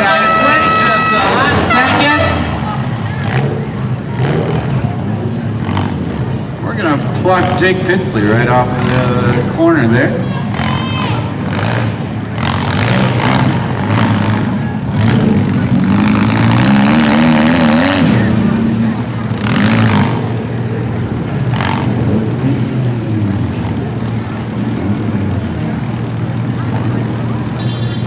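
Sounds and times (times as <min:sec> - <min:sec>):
cars crashing: 0:00.0 - 0:27.6
car engines revving: 0:00.0 - 0:28.0.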